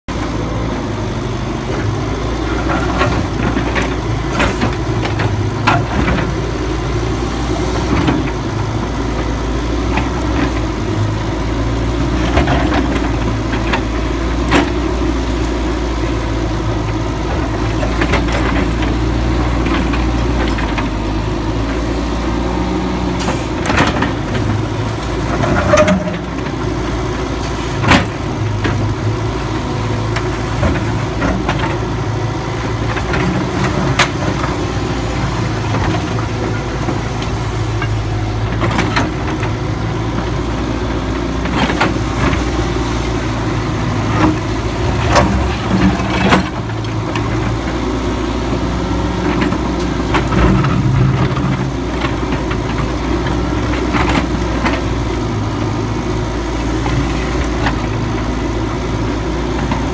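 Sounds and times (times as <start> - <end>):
excavator diesel engine running: 0.1 - 59.9.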